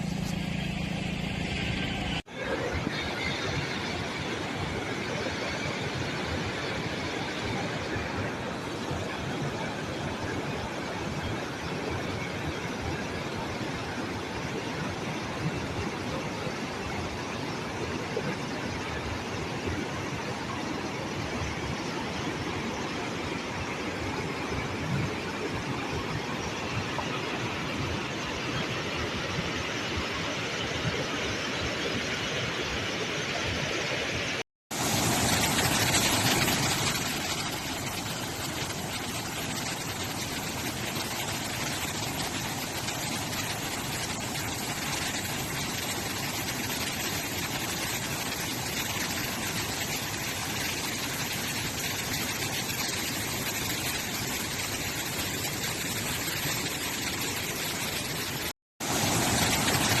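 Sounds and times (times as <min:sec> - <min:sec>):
waterfall roaring: 0:00.0 - 1:00.0.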